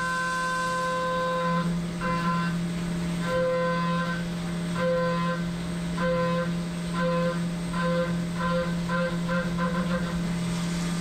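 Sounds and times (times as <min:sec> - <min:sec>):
spindle hum: 0:00.0 - 0:11.0.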